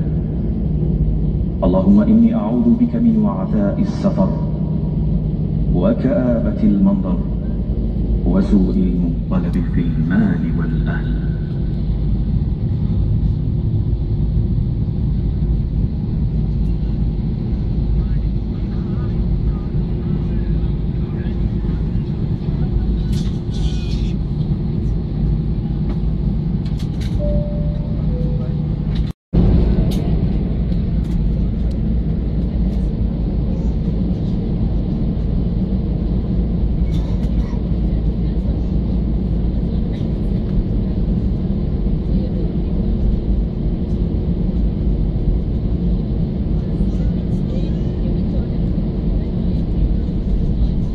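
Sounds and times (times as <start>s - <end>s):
jet airliner cabin rumble: 0.0s - 50.9s.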